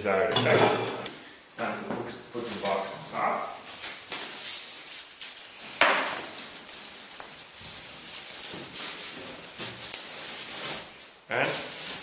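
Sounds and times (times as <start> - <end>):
aluminum foil crinkling: 2.4 - 12.0.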